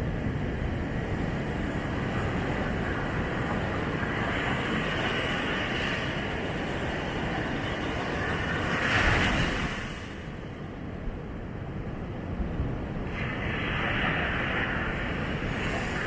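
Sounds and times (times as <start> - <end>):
surf waves breaking: 0.0 - 10.6, 12.5 - 16.0
wind rumble: 0.0 - 16.0.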